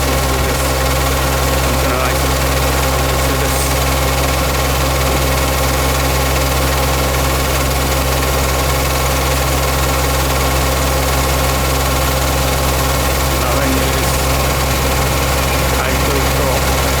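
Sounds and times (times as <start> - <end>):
farm machine engine humming: 0.0 - 17.0
high-pitched engine whine: 0.0 - 17.0.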